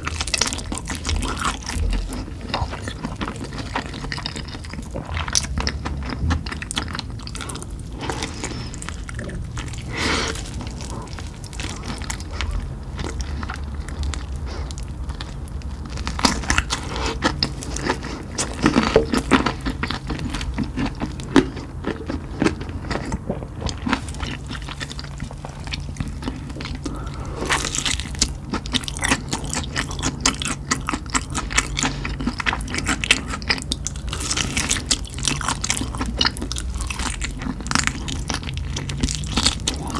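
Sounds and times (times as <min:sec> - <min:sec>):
crunching and wet chewing: 0:00.0 - 0:39.9.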